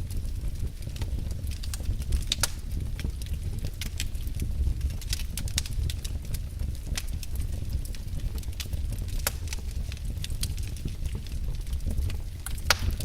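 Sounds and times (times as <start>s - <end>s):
logs crackling and popping: 0.0s - 13.0s
low rumble of flames: 0.0s - 13.0s.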